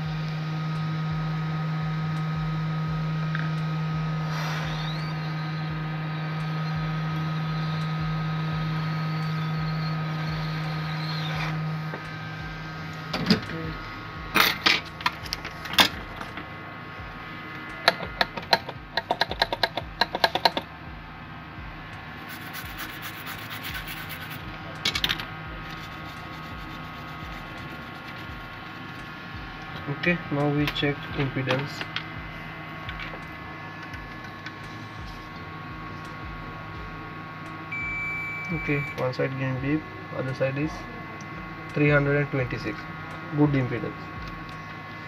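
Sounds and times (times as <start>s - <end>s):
hot-air blower whirring: 0.0s - 45.0s.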